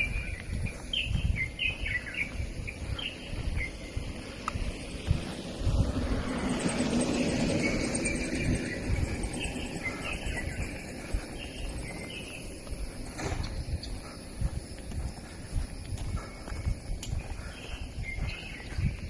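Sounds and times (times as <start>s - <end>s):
birds chirping and trilling: 0.0s - 19.0s
low hum: 0.0s - 19.0s.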